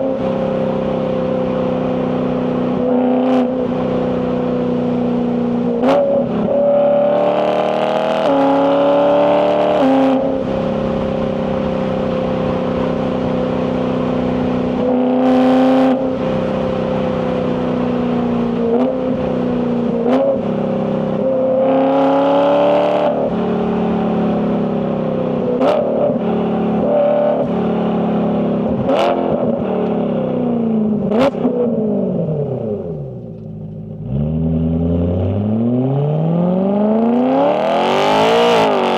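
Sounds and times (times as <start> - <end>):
car engine revving hard: 0.0 - 38.9.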